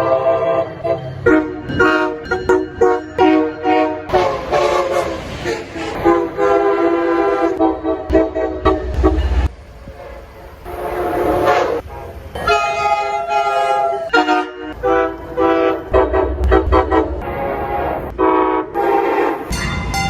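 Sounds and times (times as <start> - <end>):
train air horn blasts: 0.0 - 20.0
train rumbling: 0.0 - 20.0.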